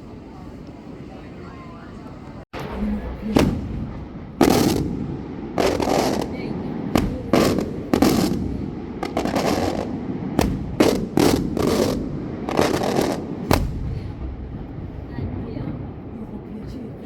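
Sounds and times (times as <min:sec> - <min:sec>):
fireworks bangs: 0:02.5 - 0:17.0.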